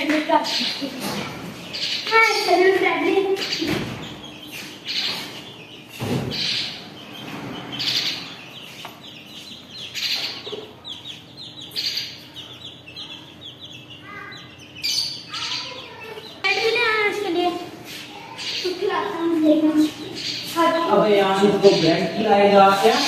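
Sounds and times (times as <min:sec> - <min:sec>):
chicks peeping: 0:00.0 - 0:23.0
soft chick chirps: 0:00.0 - 0:23.0.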